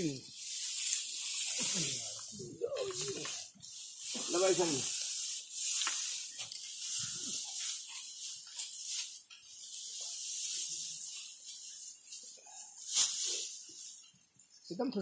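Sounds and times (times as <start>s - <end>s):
dry straw rustling and crackling: 0.0s - 15.0s.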